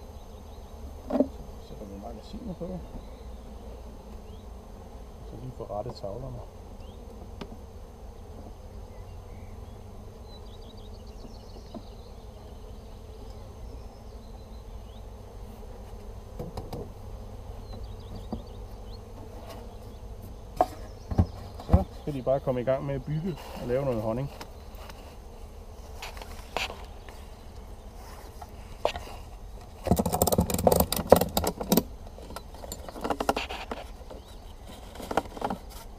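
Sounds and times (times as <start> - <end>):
honeybees buzzing: 0.0 - 35.9.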